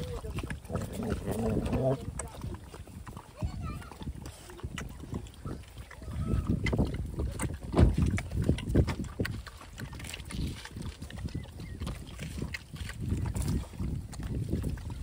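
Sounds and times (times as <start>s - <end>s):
dogs lapping liquid: 0.0s - 15.0s.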